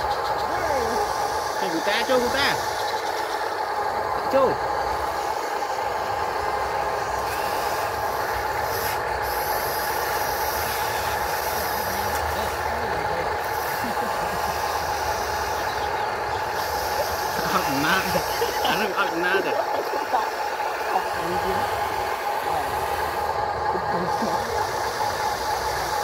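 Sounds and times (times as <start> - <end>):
toy excavator motor whining: 0.0 - 26.0.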